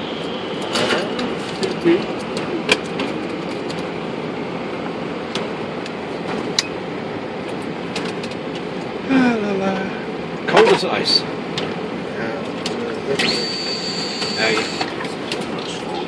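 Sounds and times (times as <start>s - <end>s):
constant fan hum: 0.0s - 16.0s.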